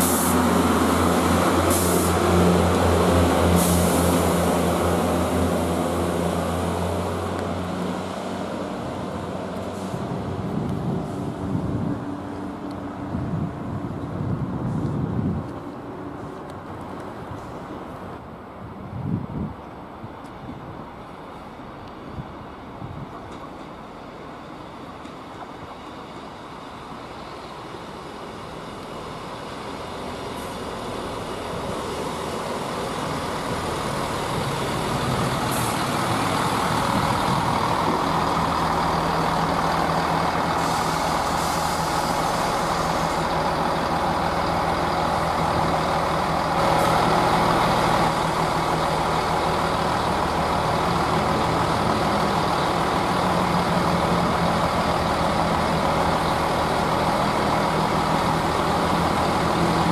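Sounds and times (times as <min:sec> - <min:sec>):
diesel train engines droning: 0:00.0 - 0:59.9.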